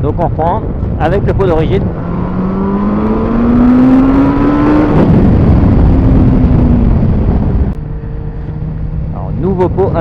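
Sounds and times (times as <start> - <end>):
wind noise on microphone: 0.0 - 10.0
motorcycle engine accelerating: 0.8 - 9.6.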